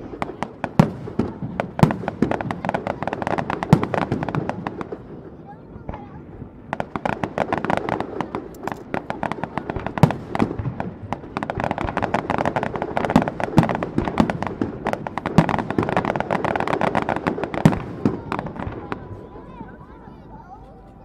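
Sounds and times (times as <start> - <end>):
loud firework bangs: 0.0 - 20.1
fireworks crackling: 0.0 - 21.0.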